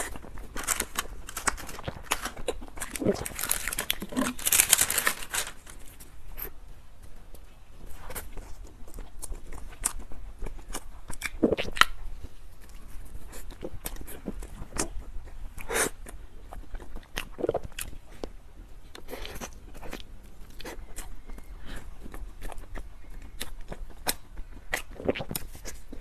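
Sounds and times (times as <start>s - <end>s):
chewing and biting dessert: 0.0s - 5.3s, 7.2s - 26.0s.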